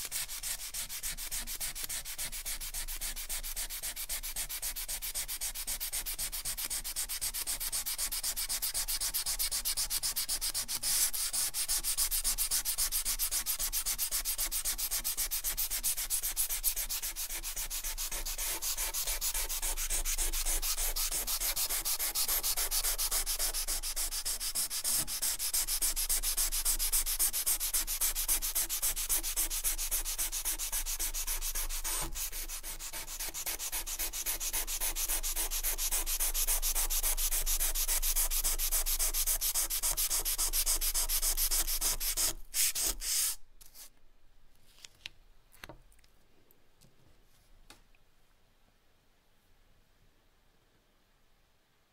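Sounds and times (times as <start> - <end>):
charcoal scratching on paper: 0.0 - 43.9.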